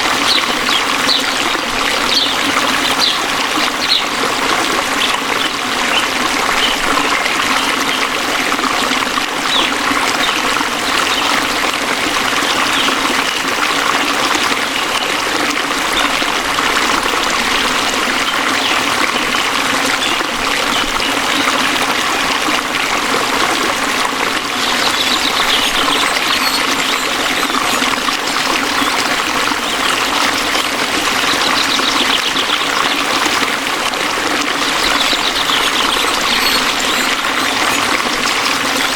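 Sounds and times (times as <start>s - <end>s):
waterfall over rocks: 0.0s - 38.9s.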